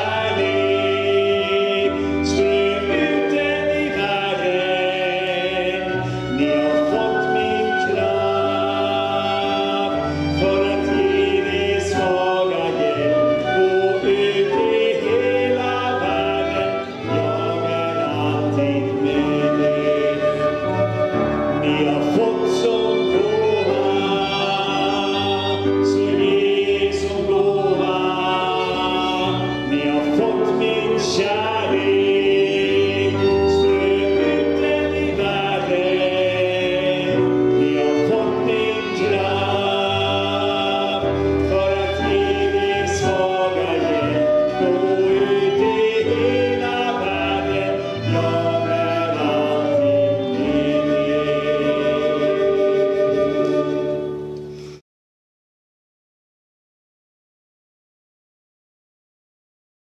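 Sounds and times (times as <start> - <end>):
flute: 0.0 - 54.8
violin: 0.0 - 54.8
voices singing worship song: 0.0 - 54.8.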